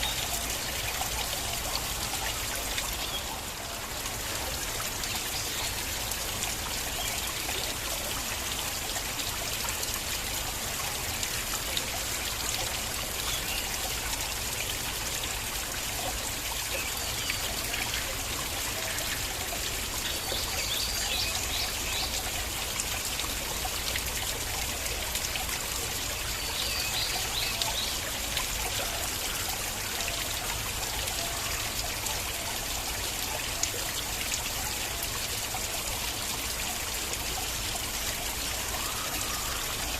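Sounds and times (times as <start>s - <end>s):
stream water over stones: 0.0s - 39.9s.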